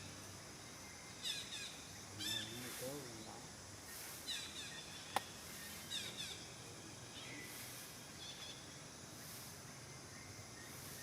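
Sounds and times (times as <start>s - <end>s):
birds chirping: 0.0s - 11.0s
high insect buzz: 0.0s - 11.0s.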